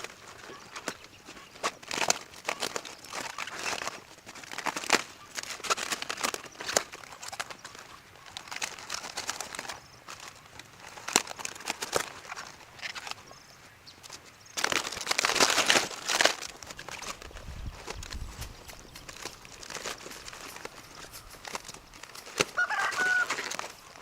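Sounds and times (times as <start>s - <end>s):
rustling and crinkling: 0.0s - 24.0s
sharp little clicks and crackles: 0.0s - 24.0s.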